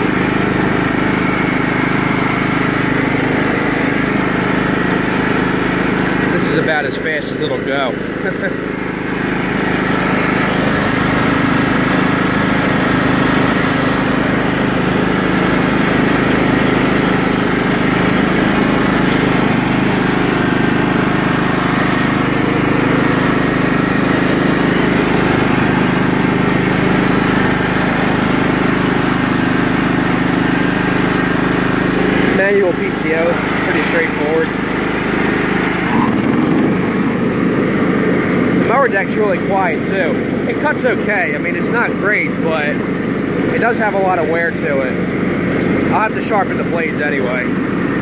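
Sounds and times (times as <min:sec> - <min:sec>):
lawn tractor engine running: 0:00.0 - 0:48.0.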